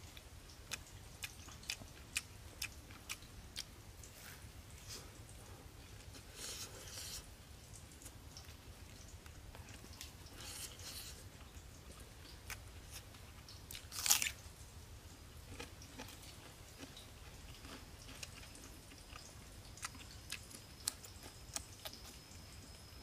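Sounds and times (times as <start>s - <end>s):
person chewing fried bread: 0.0s - 22.8s.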